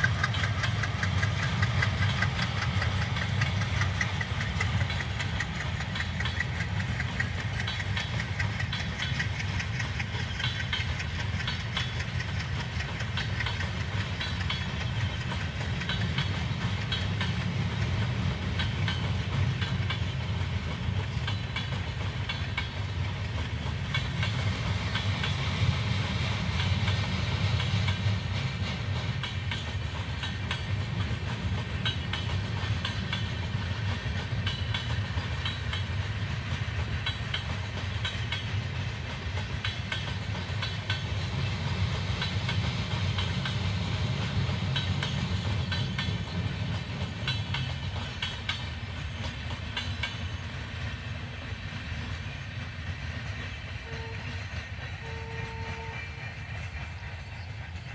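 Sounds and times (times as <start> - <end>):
train coaches rumbling past: 0.0 - 57.9
wheels clattering over rail joints: 0.0 - 57.9.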